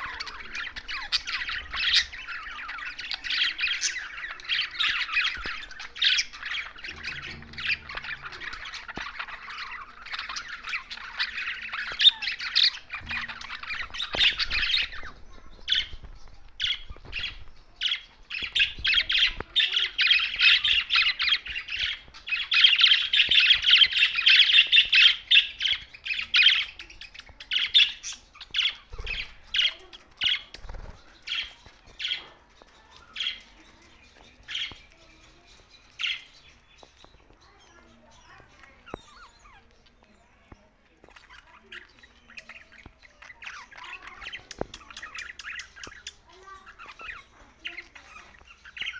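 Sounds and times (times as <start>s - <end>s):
budgerigars chattering and warbling: 0.0s - 48.9s.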